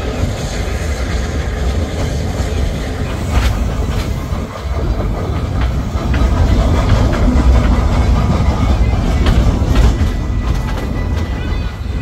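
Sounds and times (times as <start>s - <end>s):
train rumbling on track: 0.0s - 12.0s
wheels clattering on rails: 0.0s - 12.0s.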